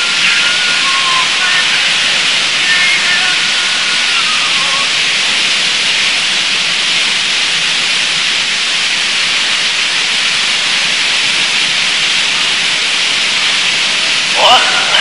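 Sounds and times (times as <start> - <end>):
analogue recording hiss: 0.0 - 15.0.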